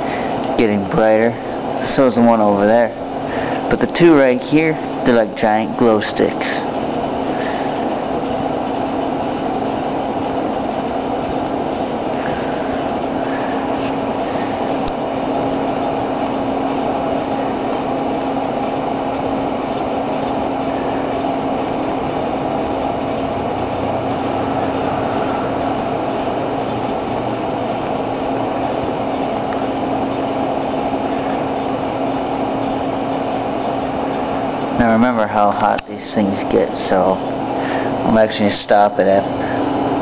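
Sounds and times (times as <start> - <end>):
fan rushing: 0.0 - 40.0
microwave oven humming: 0.0 - 40.0.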